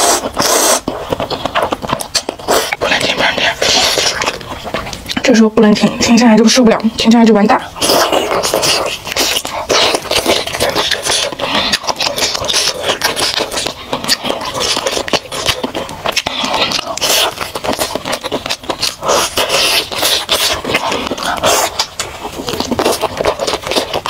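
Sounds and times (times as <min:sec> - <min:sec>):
close-miked eating and chewing: 0:00.0 - 0:24.0.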